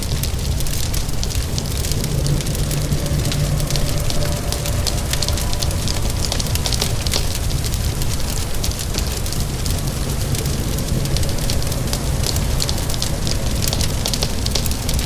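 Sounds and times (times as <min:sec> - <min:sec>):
fire crackling and popping: 0:00.0 - 0:15.0
low rumble: 0:00.0 - 0:15.0
steady rain: 0:00.0 - 0:15.0.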